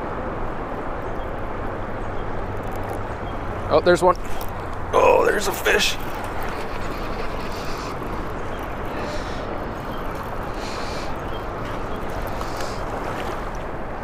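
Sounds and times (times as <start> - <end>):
flowing river water: 0.0 - 14.0
water splashing: 2.6 - 14.0.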